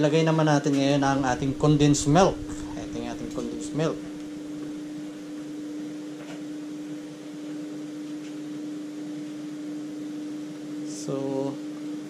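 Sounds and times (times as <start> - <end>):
electrical appliance hum: 0.0 - 12.0.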